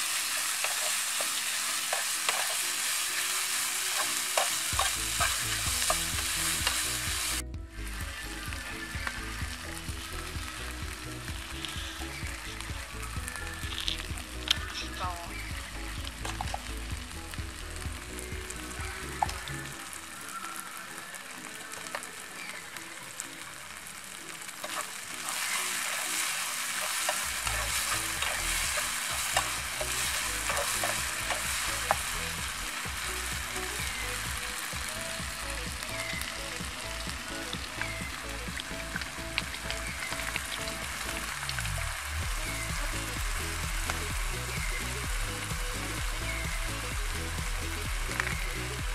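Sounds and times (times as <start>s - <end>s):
food sizzling in a frying pan: 0.0s - 48.9s.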